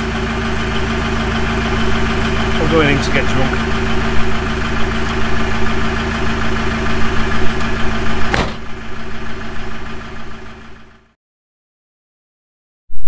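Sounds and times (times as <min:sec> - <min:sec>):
diesel engine idling: 0:00.0 - 0:11.2.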